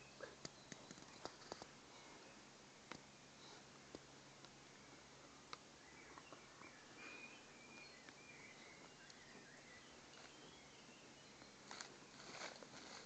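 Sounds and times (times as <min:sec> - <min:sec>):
faint bird chirps: 0:00.0 - 0:03.7, 0:04.6 - 0:13.0.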